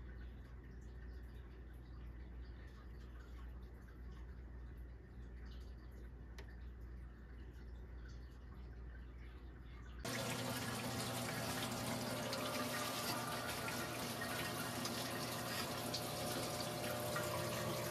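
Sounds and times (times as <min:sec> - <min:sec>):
low steady hum: 0:00.0 - 0:17.9
water running and trickling: 0:00.0 - 0:17.9.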